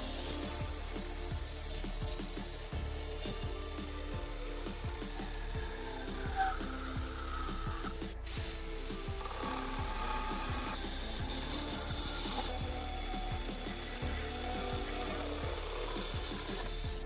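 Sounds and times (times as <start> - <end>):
music with thumping beat: 0.0 - 17.0.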